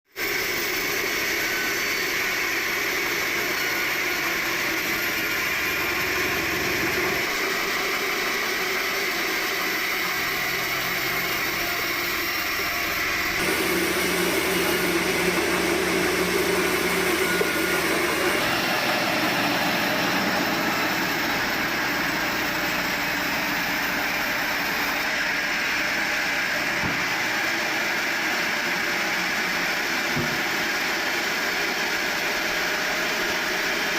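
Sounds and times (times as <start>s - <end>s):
sawmill machinery hum and whine: 0.2s - 33.9s.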